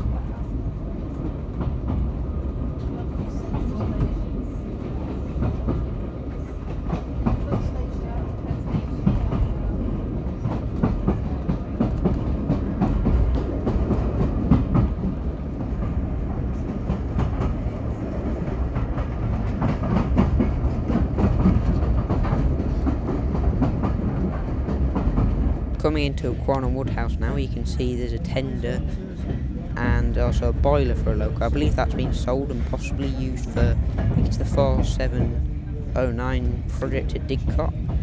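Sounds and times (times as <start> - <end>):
train clicks and knocks: 0.0 - 38.0
train wheels rumbling on rail: 0.0 - 38.0.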